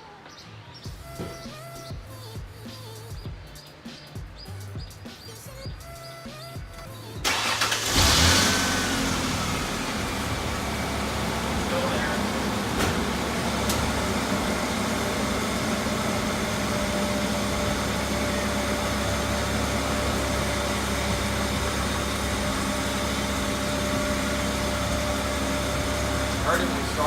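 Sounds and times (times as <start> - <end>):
car engine idling: 0.2 - 27.0.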